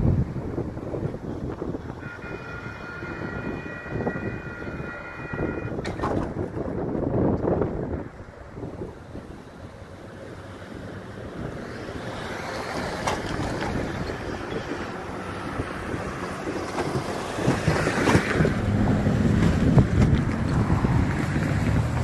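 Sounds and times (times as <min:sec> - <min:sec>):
cars and trucks driving past: 0:00.0 - 0:22.0
wind buffeting microphone: 0:00.0 - 0:22.0.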